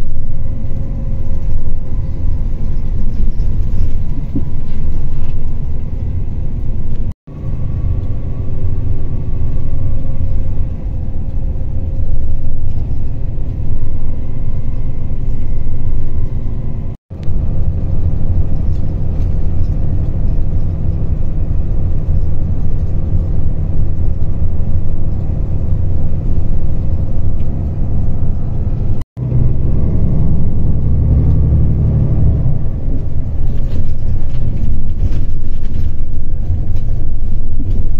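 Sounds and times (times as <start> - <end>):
road and engine rumble in vehicle: 0.0 - 37.9.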